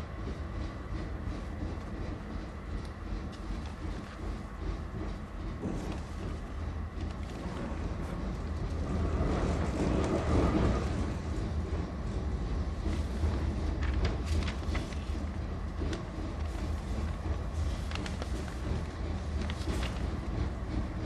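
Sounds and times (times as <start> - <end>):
tram rumbling: 0.0 - 21.0.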